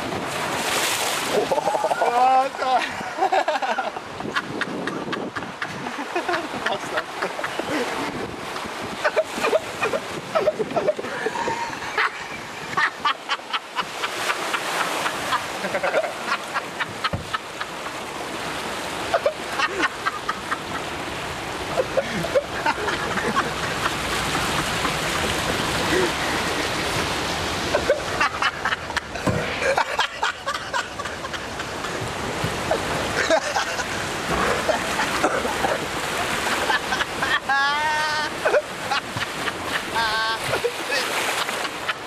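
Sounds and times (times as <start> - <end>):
rushing churning water: 0.0 - 42.0
water slapping against boat: 0.0 - 42.0.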